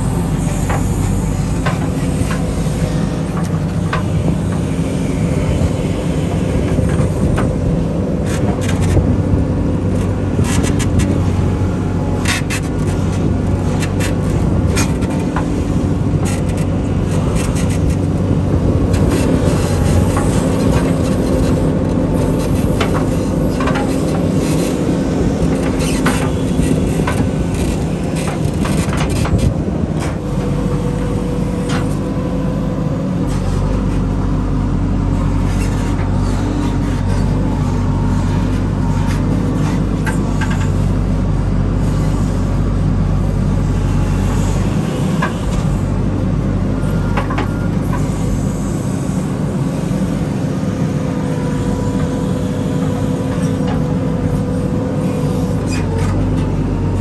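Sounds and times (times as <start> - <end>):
diesel backhoe engine running: 0.0 - 57.0.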